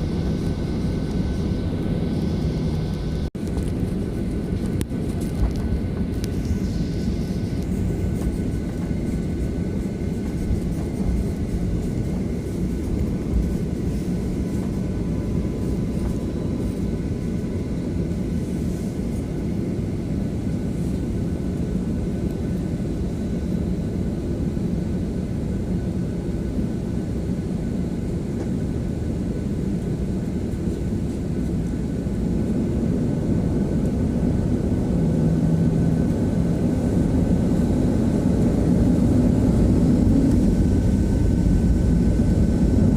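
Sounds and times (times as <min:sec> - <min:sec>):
jet engine rumble in cabin: 0:00.0 - 0:42.9.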